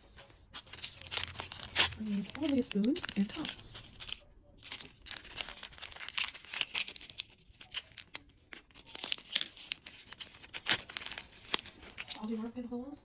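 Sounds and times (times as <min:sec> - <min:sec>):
plastic wrapper crinkling: 0:00.6 - 0:12.6.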